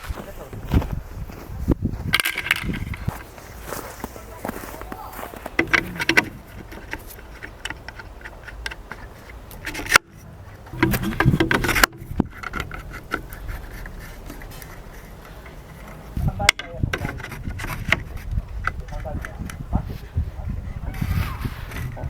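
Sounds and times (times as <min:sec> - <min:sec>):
handling clicks and rustling: 0:02.0 - 0:19.8.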